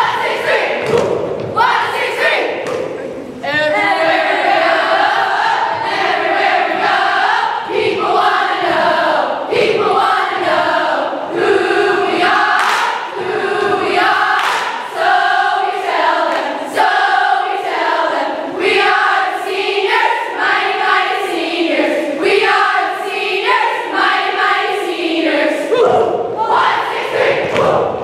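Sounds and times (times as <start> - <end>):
women singing together: 0.0 - 28.0.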